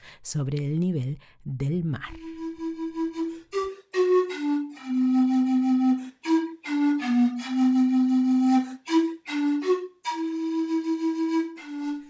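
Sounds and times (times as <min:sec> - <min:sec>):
flute melody: 0:02.2 - 0:12.0.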